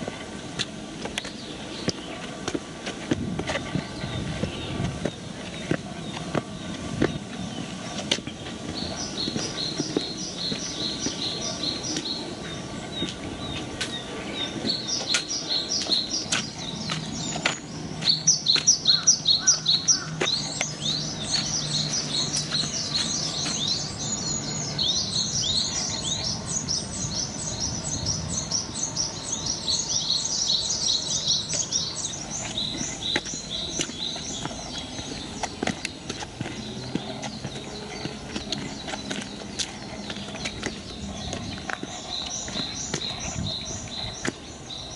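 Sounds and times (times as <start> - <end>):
footsteps on a path: 0.0 - 44.9
songbird chirping: 0.0 - 44.9.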